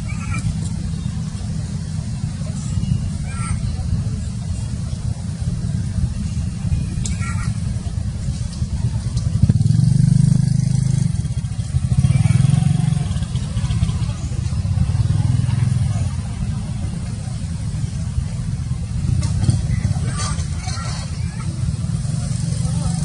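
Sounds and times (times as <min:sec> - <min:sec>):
engine running low: 0:00.0 - 0:23.0.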